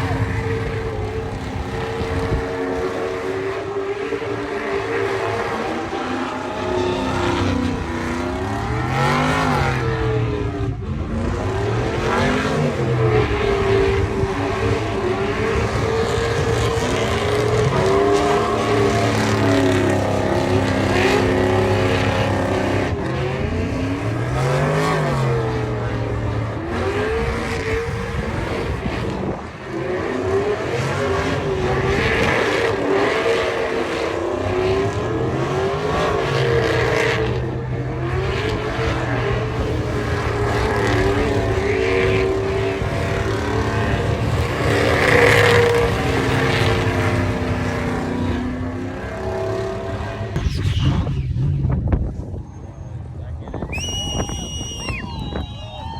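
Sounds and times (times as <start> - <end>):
truck engines revving: 0.0 - 55.9.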